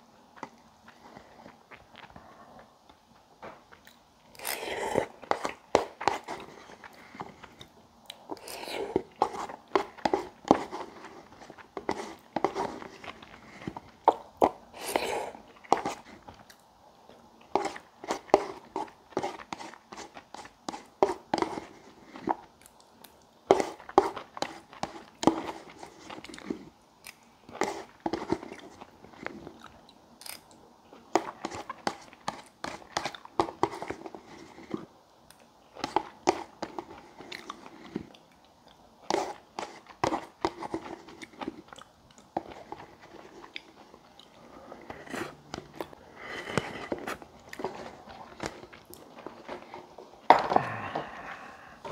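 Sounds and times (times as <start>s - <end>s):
man chewing: 0.3s - 51.9s.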